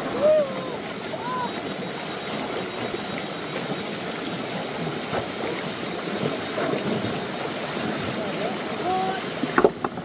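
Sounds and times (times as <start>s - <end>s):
water flowing: 0.0s - 10.0s.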